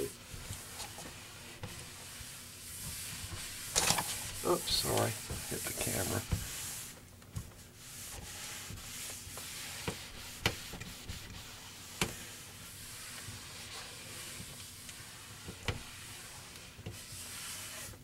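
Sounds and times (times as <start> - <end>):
cloth rag rubbing on wood: 0.0 - 18.0.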